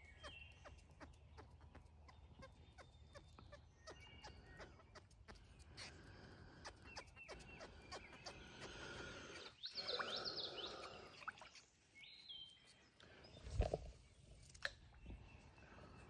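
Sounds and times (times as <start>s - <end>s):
faint outdoor background noise: 0.0s - 16.0s
small birds chirping: 0.0s - 16.0s.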